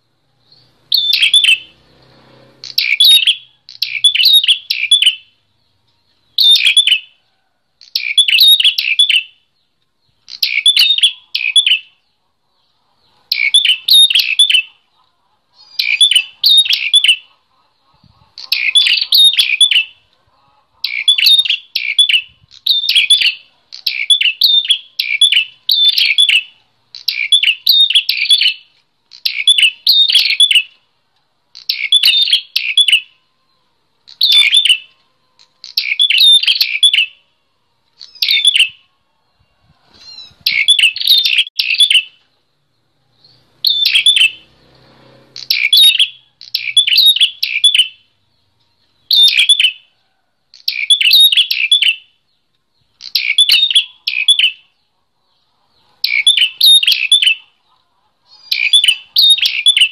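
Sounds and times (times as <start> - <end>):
small bird chattering song: 0.0 - 7.2, 7.8 - 30.9, 31.5 - 33.2, 34.1 - 37.3, 38.0 - 59.9.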